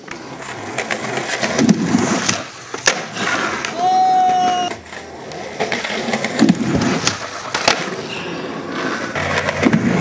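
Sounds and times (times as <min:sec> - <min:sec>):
skateboard clacks and knocks: 0:00.0 - 0:10.0
skateboard wheels rolling on asphalt: 0:00.0 - 0:10.0.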